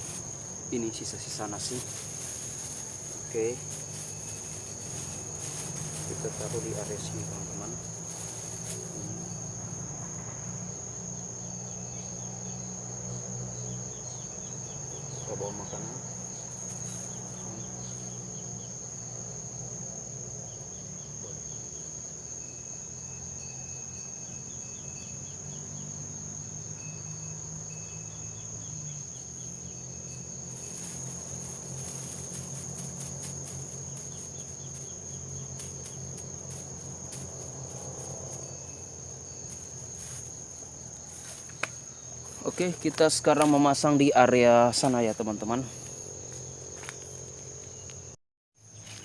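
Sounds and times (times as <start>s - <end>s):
insects buzzing: 0.0s - 49.0s.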